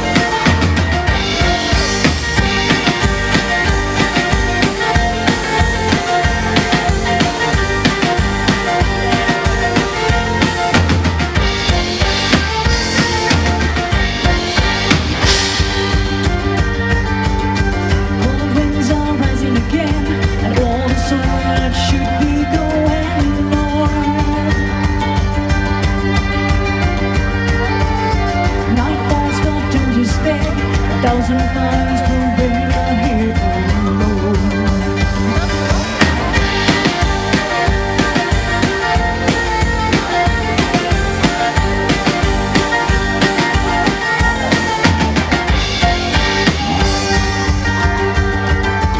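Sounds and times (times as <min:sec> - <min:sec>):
drum kit beat: 0:00.0 - 0:48.9.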